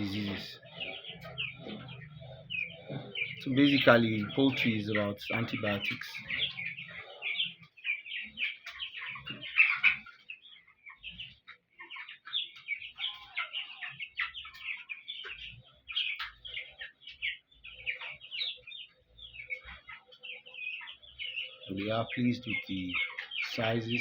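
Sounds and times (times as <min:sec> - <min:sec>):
chickens peeping and cheeping: 0:00.0 - 0:24.0.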